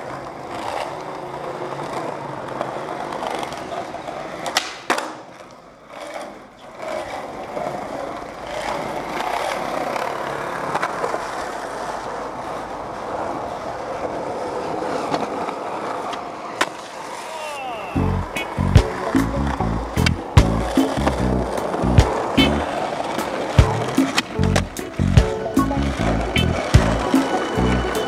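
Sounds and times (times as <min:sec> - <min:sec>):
skateboard clacks: 0:00.0 - 0:28.0
skateboard wheels rolling: 0:00.0 - 0:28.0.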